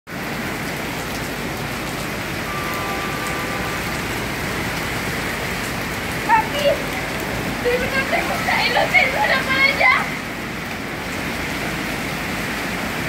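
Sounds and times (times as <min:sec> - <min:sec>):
rain on wet pavement: 0:00.1 - 0:13.0.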